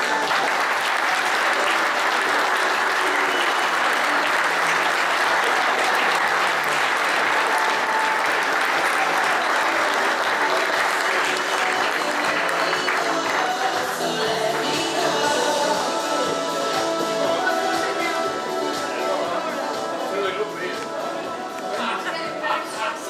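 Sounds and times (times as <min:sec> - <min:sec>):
audience clapping: 0:00.0 - 0:19.1.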